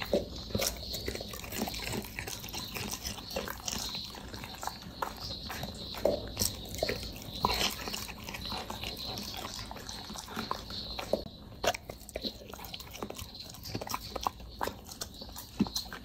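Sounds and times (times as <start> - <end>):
dog chewing food: 0.0 - 16.0.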